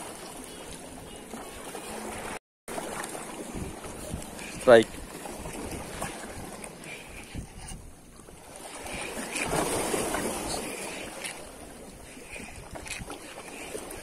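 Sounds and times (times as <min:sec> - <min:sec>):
choppy water lapping: 0:00.0 - 0:14.0
wind on microphone: 0:00.0 - 0:14.0.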